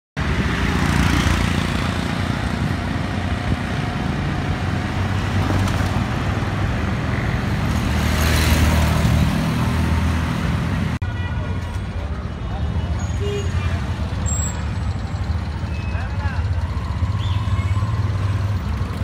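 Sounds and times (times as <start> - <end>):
road noise: 0.2 - 19.0.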